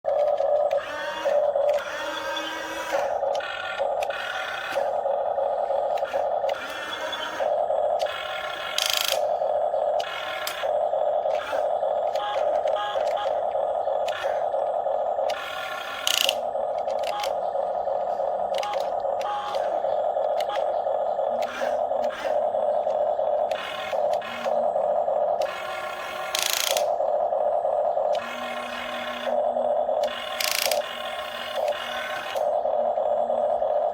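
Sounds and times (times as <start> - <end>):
small electric motors whining: 0.1 - 33.9.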